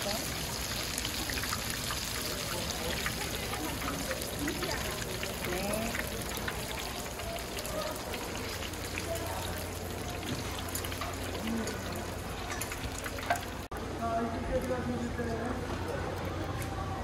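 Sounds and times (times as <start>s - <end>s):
hot oil sizzling in a fryer: 0.0s - 13.7s.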